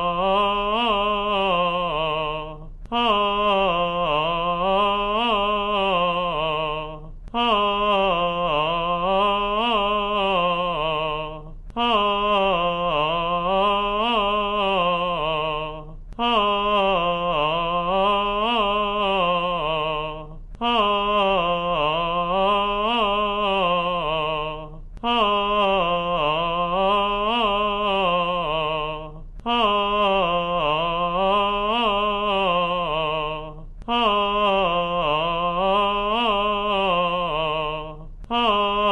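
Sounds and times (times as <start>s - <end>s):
person singing vocal exercise: 0.0s - 38.9s.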